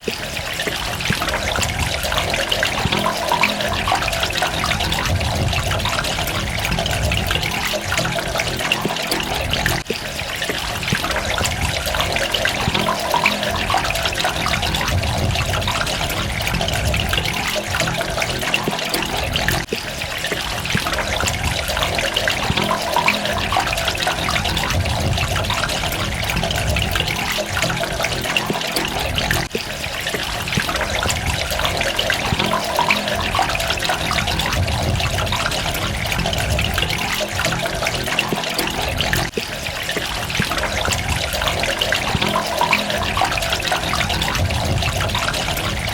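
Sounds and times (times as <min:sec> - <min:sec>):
water trickling and splashing: 0:00.0 - 0:45.9.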